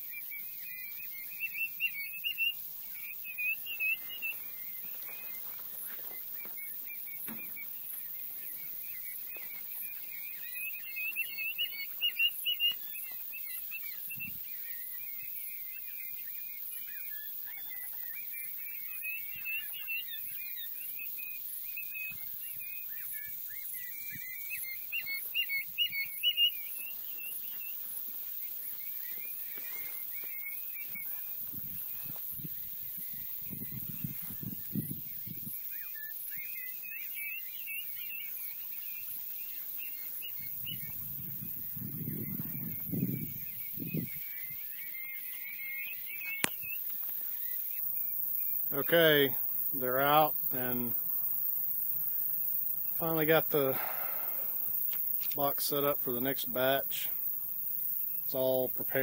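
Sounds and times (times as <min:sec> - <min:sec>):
young quail peeping and chirping: 0:00.0 - 0:59.0.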